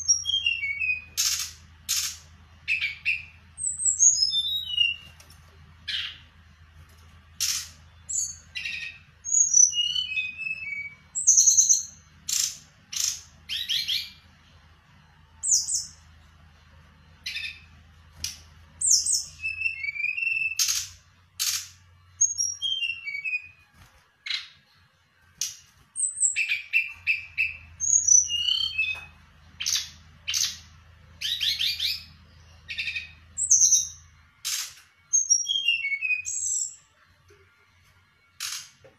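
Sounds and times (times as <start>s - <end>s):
songbird singing: 0.0s - 6.6s, 7.3s - 23.6s, 25.4s - 37.0s
faint low hum: 0.0s - 38.9s.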